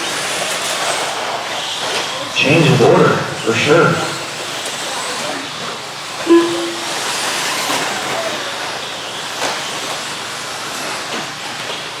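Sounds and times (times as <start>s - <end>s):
rc trucks racing: 0.0s - 12.0s.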